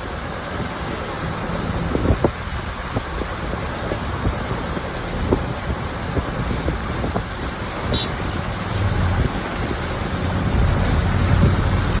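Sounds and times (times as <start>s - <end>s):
heavy rain pouring: 0.0s - 12.0s
low rumbling: 0.0s - 12.0s.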